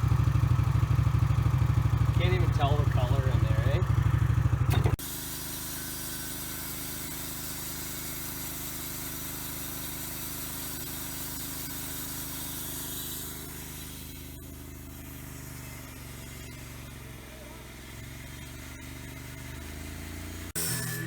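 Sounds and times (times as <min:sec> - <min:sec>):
engine idling: 0:00.0 - 0:20.6.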